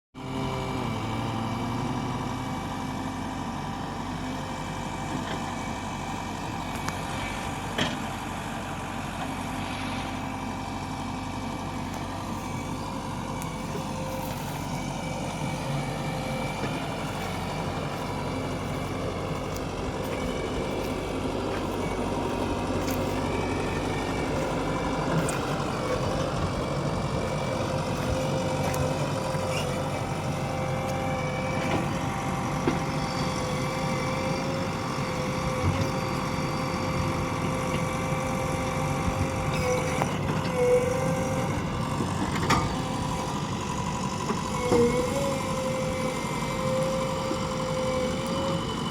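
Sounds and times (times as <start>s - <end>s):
backhoe diesel engine running: 0.2s - 48.9s.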